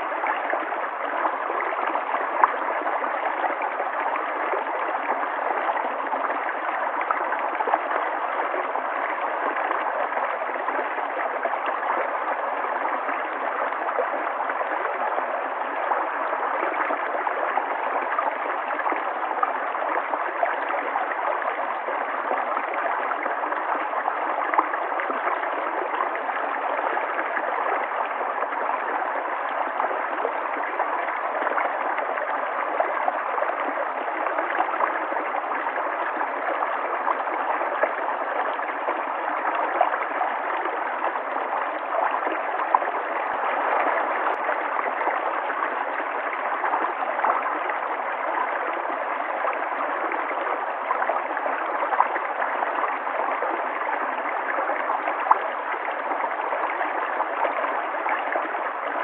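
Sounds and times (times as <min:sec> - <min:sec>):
river water gurgling over rocks: 0:00.0 - 0:59.0.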